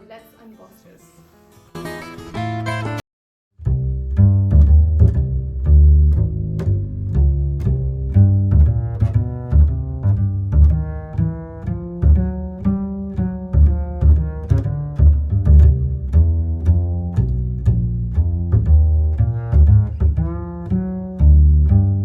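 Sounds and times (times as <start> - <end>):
instrumental music with bass and beat: 1.7 - 3.0, 3.6 - 22.0.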